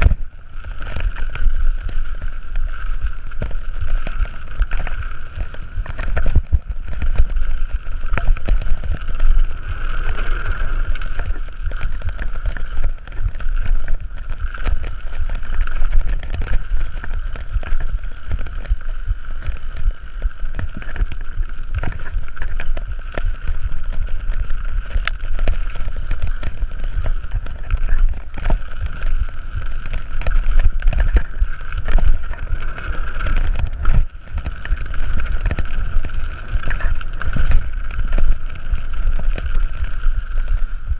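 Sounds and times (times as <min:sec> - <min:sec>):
bike clattering over bumps: 0:00.0 - 0:40.9
wind buffeting microphone: 0:00.0 - 0:40.9.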